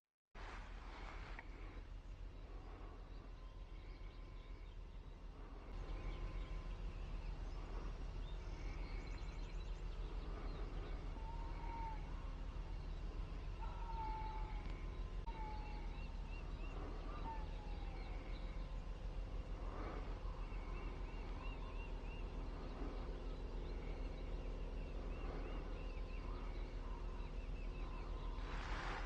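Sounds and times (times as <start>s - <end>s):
steady low rumble: 0.4s - 29.0s.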